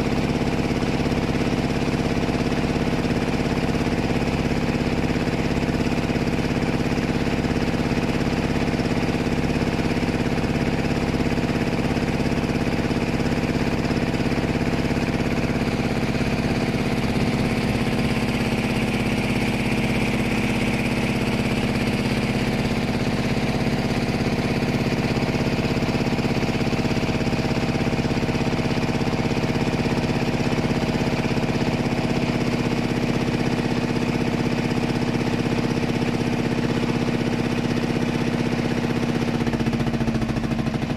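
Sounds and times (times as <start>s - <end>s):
boat engine rumbling: 0.0s - 40.9s.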